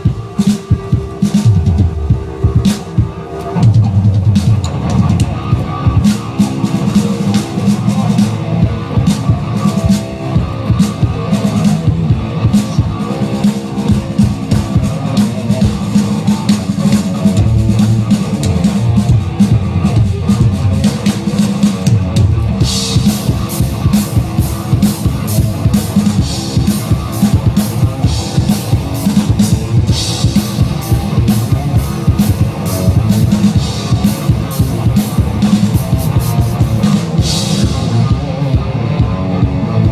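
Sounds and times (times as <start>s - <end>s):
rock drum kit playing: 0.0s - 39.9s.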